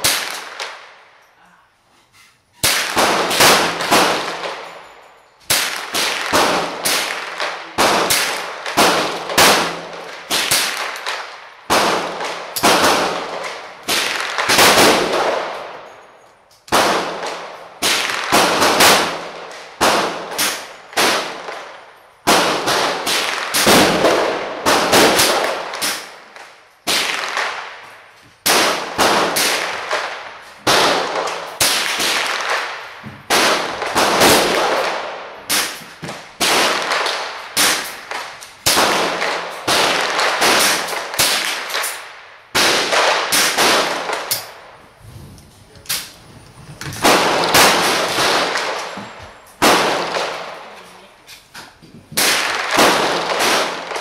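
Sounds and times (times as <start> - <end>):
rifle shots echoing indoors: 2.6 - 4.8, 5.5 - 16.0, 16.7 - 35.8, 36.4 - 44.7, 47.0 - 50.9, 52.2 - 54.0.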